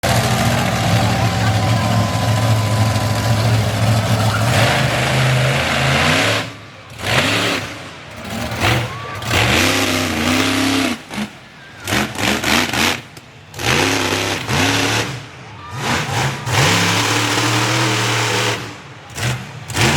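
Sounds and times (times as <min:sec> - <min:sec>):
truck engine revving: 0:00.0 - 0:19.9.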